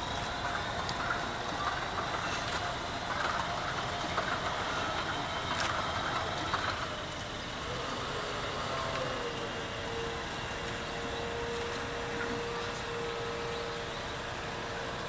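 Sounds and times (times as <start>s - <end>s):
crowd murmur: 0.0s - 15.0s
faint steady hum: 0.0s - 15.0s.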